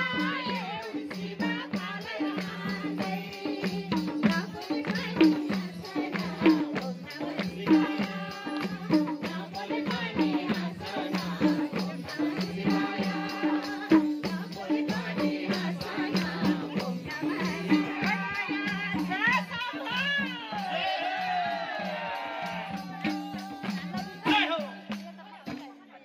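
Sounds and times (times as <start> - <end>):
hand drums beating: 0.0 - 25.8
jingling tambourine: 0.0 - 26.0.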